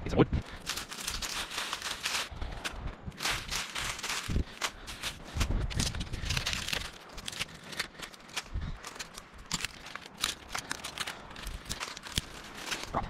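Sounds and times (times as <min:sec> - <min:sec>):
dry twigs crackling and snapping: 0:00.4 - 0:13.0.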